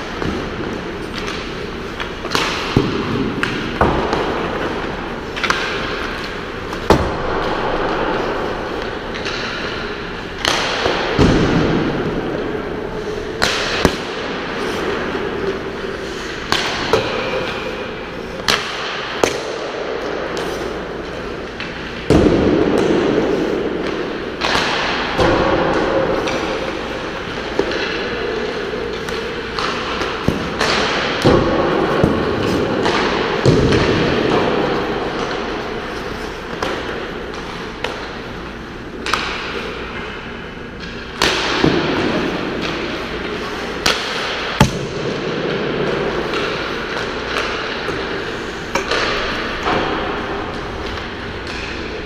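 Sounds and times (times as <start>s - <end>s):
hockey pucks clacking off sticks: 0.0s - 52.0s
pucks thudding against boards: 0.0s - 52.0s.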